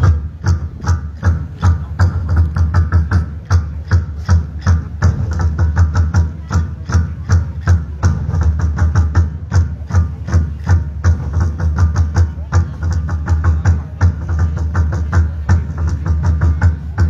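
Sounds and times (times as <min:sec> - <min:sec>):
drums beaten in fast rhythm: 0:00.0 - 0:17.0.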